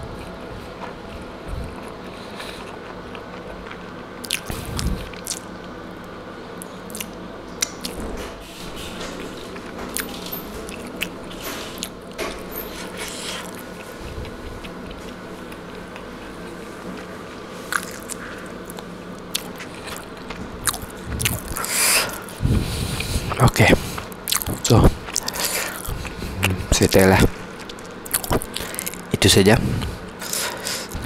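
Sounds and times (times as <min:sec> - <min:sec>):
chewing with mouth clicks: 0:00.0 - 0:05.8, 0:06.6 - 0:08.0, 0:09.1 - 0:29.1
faint steady hum: 0:00.0 - 0:31.0.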